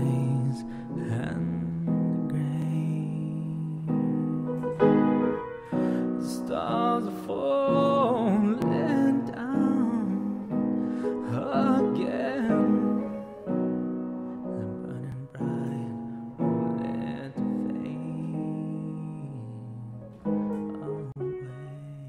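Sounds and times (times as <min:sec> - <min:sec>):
person singing: 0:00.0 - 0:22.0
piano chords: 0:00.0 - 0:22.0.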